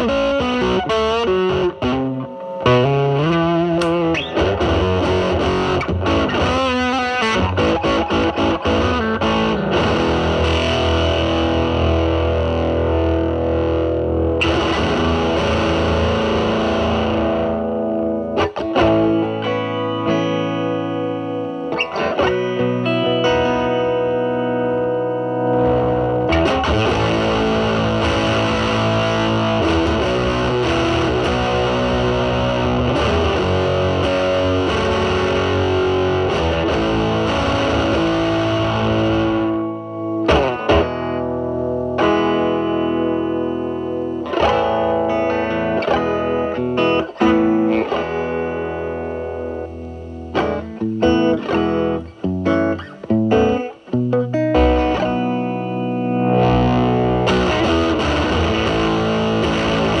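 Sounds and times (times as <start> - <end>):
fuzzy distorted electric guitar: 0.0 - 60.0.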